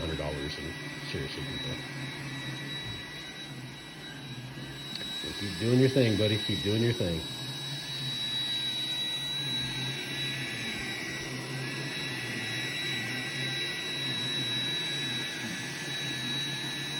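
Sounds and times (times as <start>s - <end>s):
robot vacuum motor humming: 0.0s - 16.9s.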